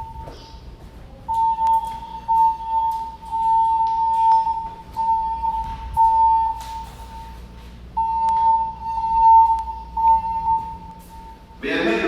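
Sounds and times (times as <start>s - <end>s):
fire alarm tone pulsing: 0.0s - 0.6s, 1.3s - 11.6s.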